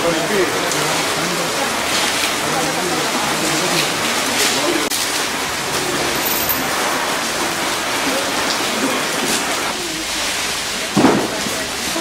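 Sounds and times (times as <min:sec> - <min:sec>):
faint voices: 0:00.0 - 0:12.0
rain hissing: 0:00.0 - 0:12.0.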